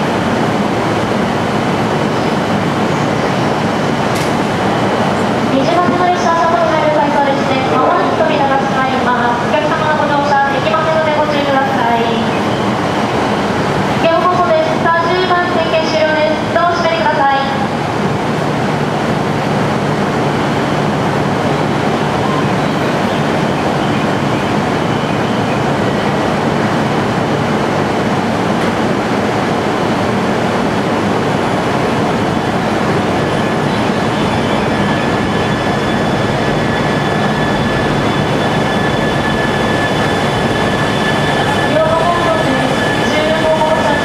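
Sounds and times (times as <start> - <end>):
train equipment hum: 0.0 - 44.0.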